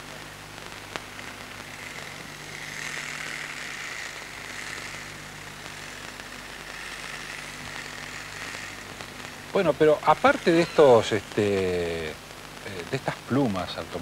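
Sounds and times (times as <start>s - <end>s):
small motor buzzing: 0.9s - 12.8s.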